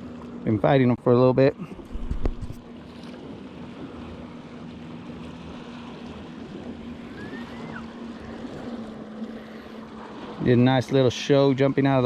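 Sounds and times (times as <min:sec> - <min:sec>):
low motor hum: 0:00.0 - 0:12.0
water noise around boat: 0:00.0 - 0:12.0
wind: 0:00.0 - 0:12.0.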